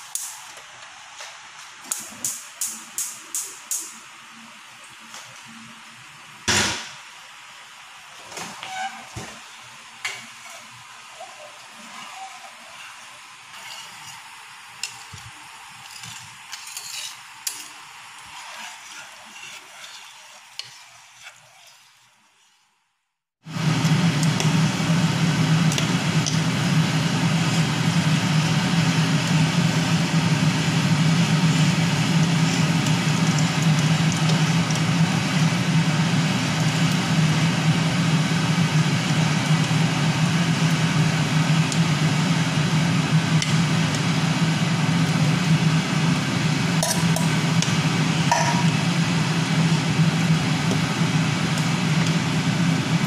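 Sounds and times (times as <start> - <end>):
loud mechanical hum: 0.0 - 20.1, 23.4 - 53.0.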